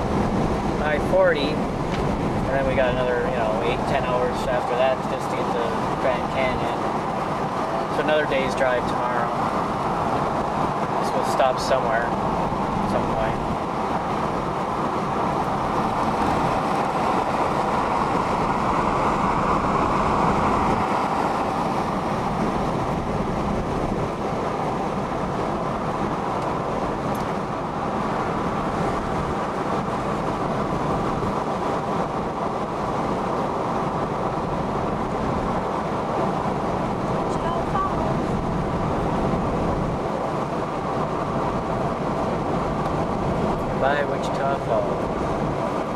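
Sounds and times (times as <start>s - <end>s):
car road drone inside cabin: 0.0s - 45.9s.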